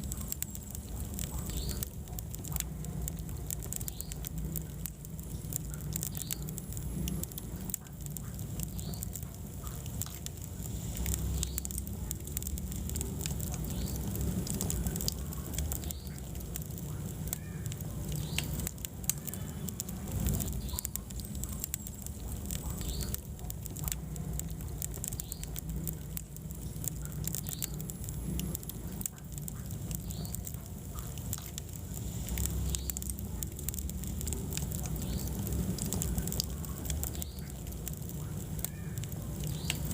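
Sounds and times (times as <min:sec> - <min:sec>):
fire burning in a fireplace: 0:00.0 - 0:39.9
logs crackling and popping: 0:00.0 - 0:39.9.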